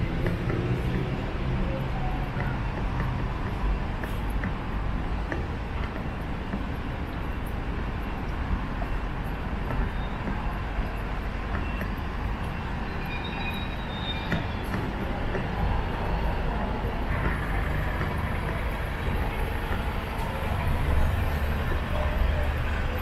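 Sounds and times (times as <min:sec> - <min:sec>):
street traffic on wet road: 0:00.0 - 0:23.0.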